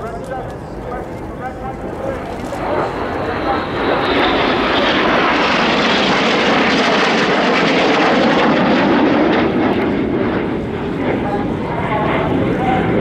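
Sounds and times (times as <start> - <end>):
jet aircraft passing: 0.0 - 13.0.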